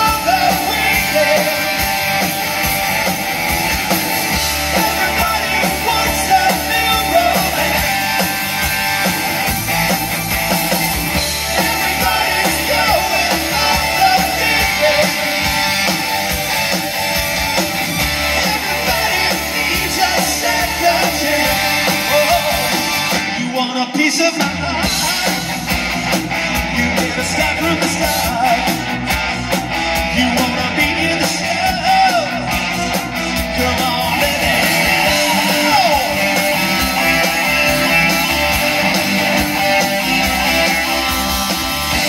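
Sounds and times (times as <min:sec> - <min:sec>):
electric bass: 0:00.0 - 0:23.5, 0:24.4 - 0:42.0
drums: 0:00.0 - 0:42.0
keyboards: 0:00.0 - 0:42.0
lead vocals: 0:00.0 - 0:42.0.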